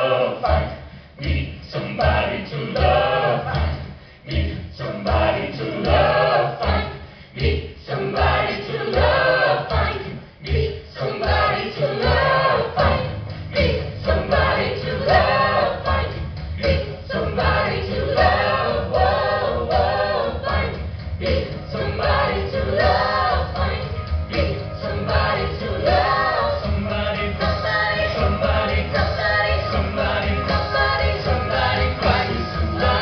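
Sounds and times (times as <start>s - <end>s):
chorus singing rock music: 0.0s - 33.0s
steady beat: 0.5s - 33.0s.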